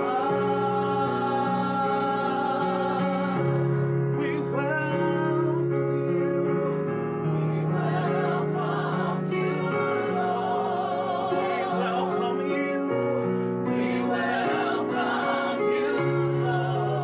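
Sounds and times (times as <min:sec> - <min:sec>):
gospel choir singing: 0:00.0 - 0:04.6, 0:07.2 - 0:17.0.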